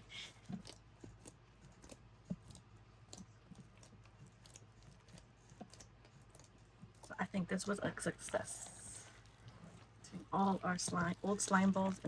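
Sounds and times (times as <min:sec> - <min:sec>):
slime squelching by hand: 0:00.0 - 0:12.0.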